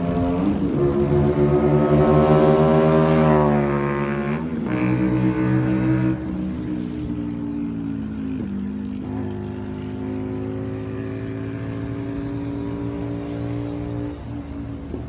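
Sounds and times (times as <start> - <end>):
motorcycle engine flyby: 0.0 - 7.1, 8.0 - 15.0.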